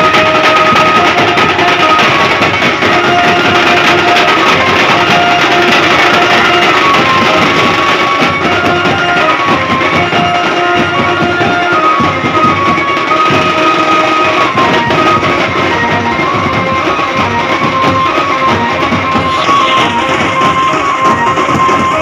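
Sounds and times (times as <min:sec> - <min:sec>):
dhol drums beaten with sticks: 0:00.0 - 0:22.0
stepping melody line: 0:00.0 - 0:22.0.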